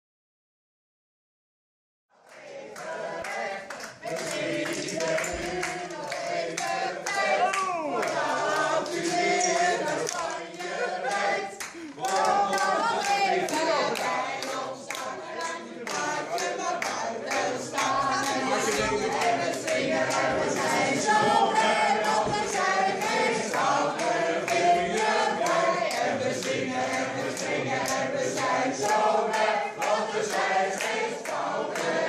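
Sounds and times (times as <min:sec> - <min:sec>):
group of voices singing: 0:02.1 - 0:32.0
hands clapping to the beat: 0:02.3 - 0:32.0.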